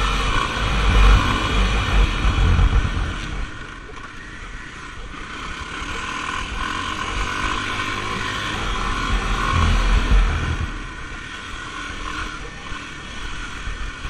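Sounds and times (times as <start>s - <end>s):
off-road vehicle engine revving: 0.0s - 3.6s, 5.2s - 14.0s.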